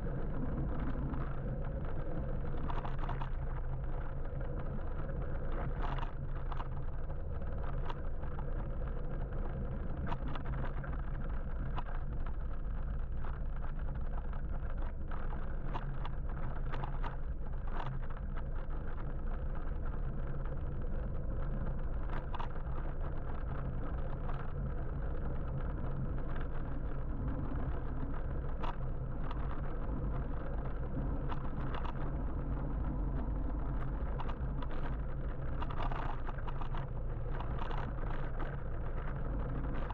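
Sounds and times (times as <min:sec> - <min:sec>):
motorbike road rumble: 0:00.0 - 0:39.9.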